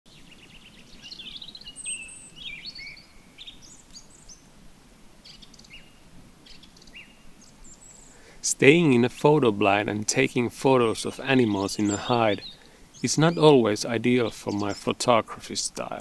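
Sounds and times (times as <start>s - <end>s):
birds twittering song: 0.1s - 16.0s
faint low background noise: 0.1s - 16.0s.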